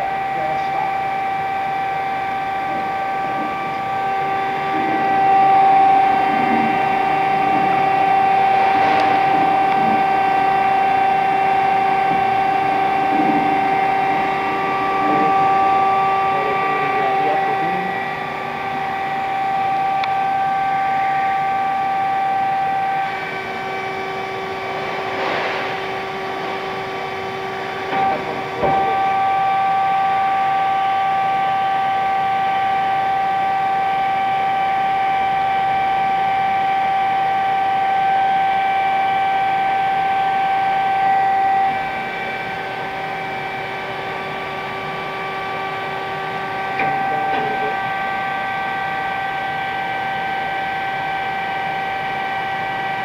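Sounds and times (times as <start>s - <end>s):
machinery whining: 0.0s - 53.0s.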